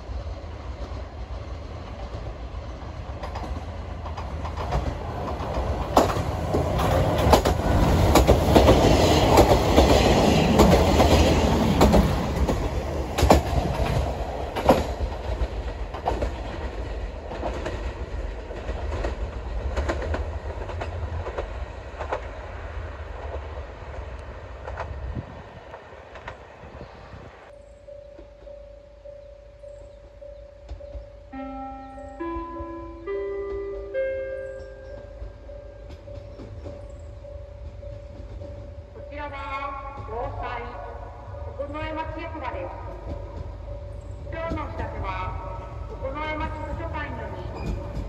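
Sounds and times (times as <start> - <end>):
low train engine drone: 0.0 - 48.0
wheels clacking over rail joints: 0.6 - 26.6, 33.0 - 40.7, 42.1 - 48.0.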